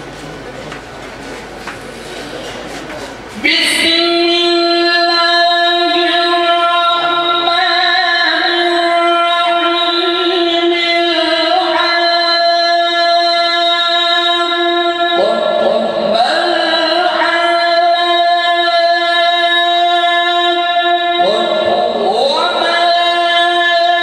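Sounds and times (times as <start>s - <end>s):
man chanting through microphone: 2.0s - 24.0s.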